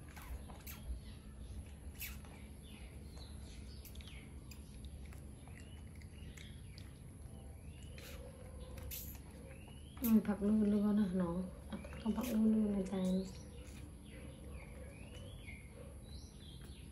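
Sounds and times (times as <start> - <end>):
faint bird chirps: 0.0 - 16.9
low steady hum: 0.0 - 16.9.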